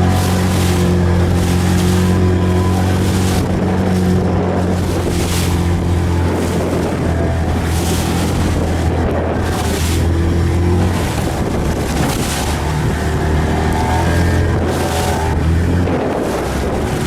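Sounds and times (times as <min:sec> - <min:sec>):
water rushing: 0:00.0 - 0:17.0
wind on microphone: 0:00.0 - 0:17.0.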